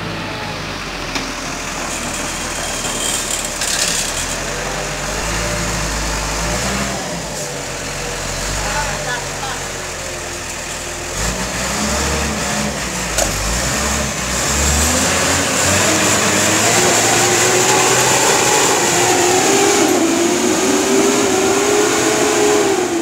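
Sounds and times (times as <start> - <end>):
diesel engine revving under load: 0.0 - 23.0.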